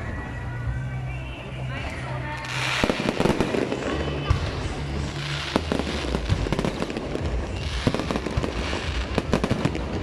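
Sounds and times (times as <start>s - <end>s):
fireworks bangs and crackles: 1.9s - 10.0s.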